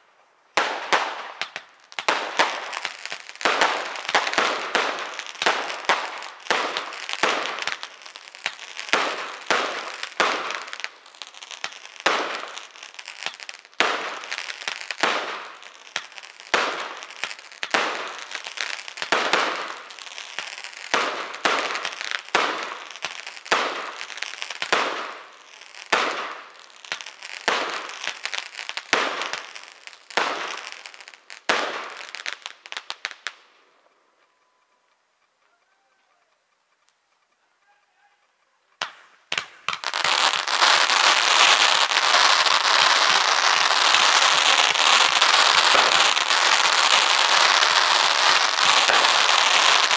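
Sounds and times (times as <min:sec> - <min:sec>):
fireworks banging: 0:00.0 - 0:34.3, 0:38.8 - 0:49.9.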